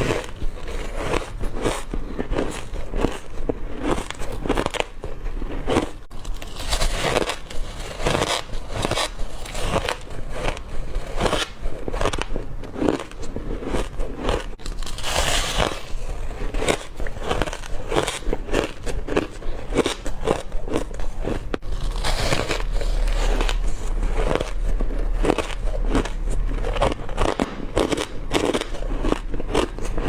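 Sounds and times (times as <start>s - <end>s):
crushed ice being chewed: 0.0s - 30.0s.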